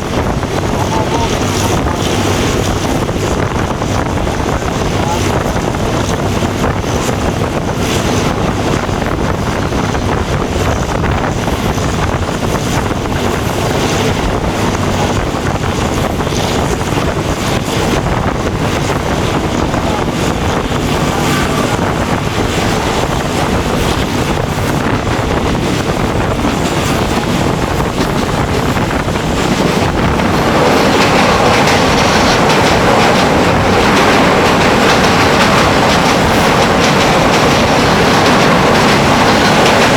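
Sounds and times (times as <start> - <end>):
train rumbling: 0.0 - 39.9
wheels on rails: 0.0 - 39.9.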